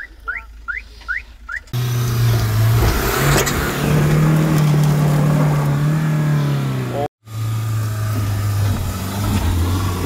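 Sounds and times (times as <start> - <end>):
suv engine pulling hard: 1.7 - 10.0.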